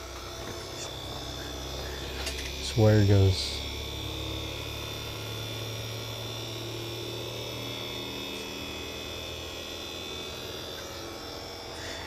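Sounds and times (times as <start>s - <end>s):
printer fans and motors humming: 0.0s - 12.0s
thin high whine: 0.0s - 12.0s.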